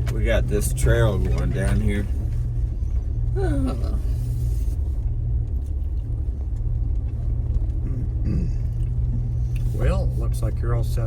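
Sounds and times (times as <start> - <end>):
vehicle road rumble on dirt: 0.0 - 11.0.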